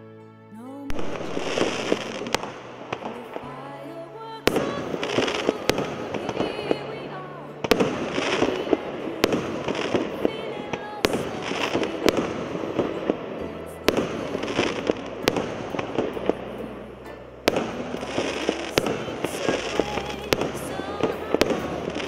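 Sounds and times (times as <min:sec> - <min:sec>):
crackle of firework stars: 0:00.9 - 0:03.5, 0:04.4 - 0:16.6, 0:17.4 - 0:22.0
fireworks bangs: 0:00.9 - 0:22.0.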